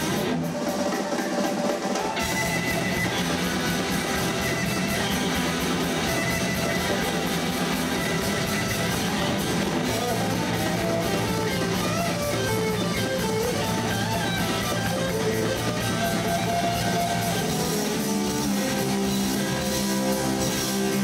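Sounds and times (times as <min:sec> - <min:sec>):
distorted electric guitars: 0:00.0 - 0:21.0
drum kit: 0:00.0 - 0:21.0.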